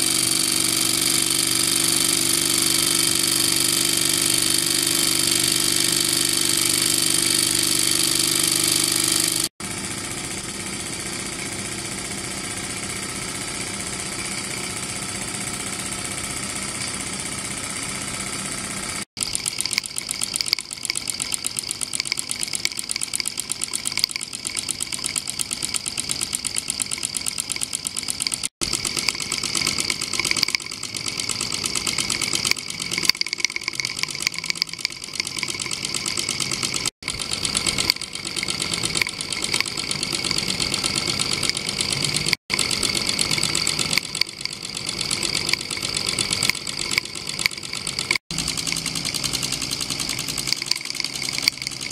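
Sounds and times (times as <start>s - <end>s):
toy steam engine chuffing: 0.0s - 51.9s.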